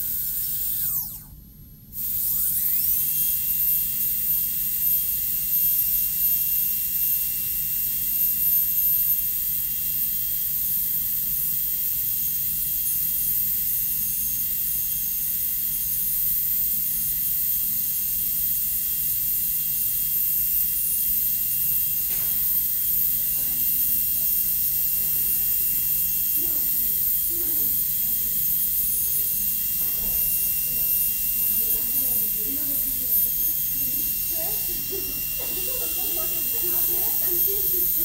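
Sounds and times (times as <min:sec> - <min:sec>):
dental drill whining: 0:00.0 - 0:38.0.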